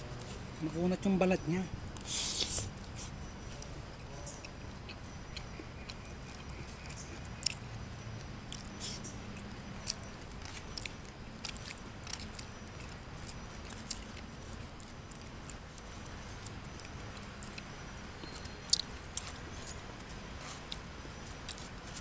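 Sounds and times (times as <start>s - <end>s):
chewing: 1.8s - 22.0s.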